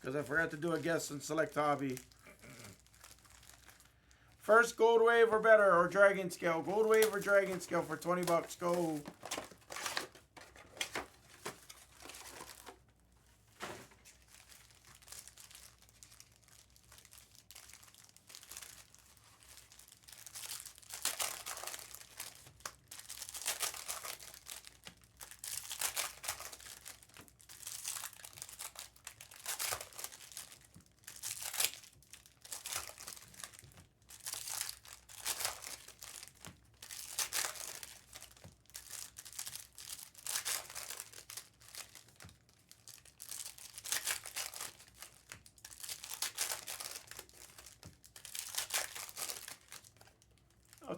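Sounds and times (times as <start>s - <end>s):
foil wrappers crinkling: 0.1s - 50.9s.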